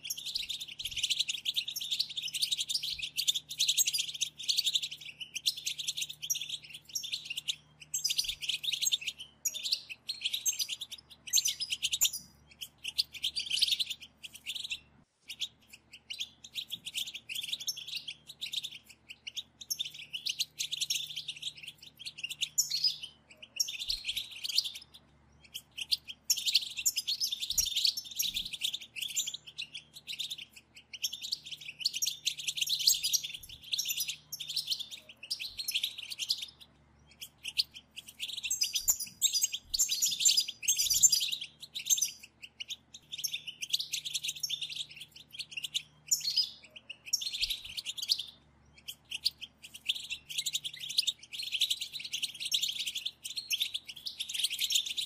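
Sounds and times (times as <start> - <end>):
finches twittering: 0.0 - 55.0.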